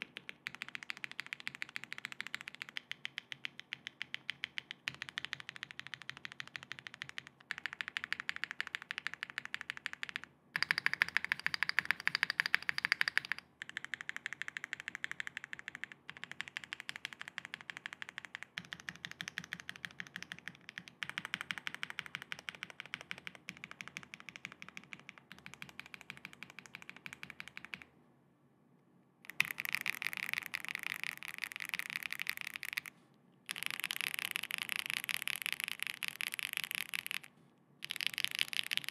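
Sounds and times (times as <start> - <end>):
mechanical keyboard typing: 0.0 - 27.9, 29.3 - 32.9, 33.5 - 38.9.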